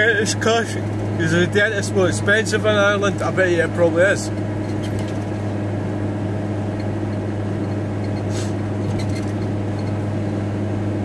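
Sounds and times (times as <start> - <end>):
van engine and road noise: 0.0 - 11.0.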